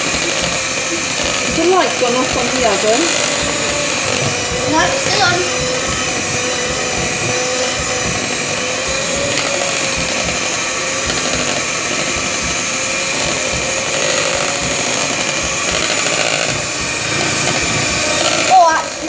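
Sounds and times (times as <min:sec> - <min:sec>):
electric hand mixer whine: 0:00.0 - 0:19.0.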